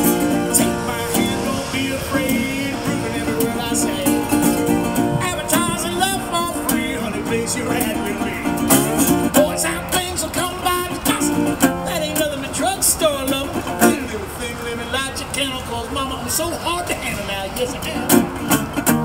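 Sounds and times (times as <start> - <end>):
resonator guitar blues: 0.0 - 14.3, 17.4 - 19.0
man singing: 0.0 - 18.4.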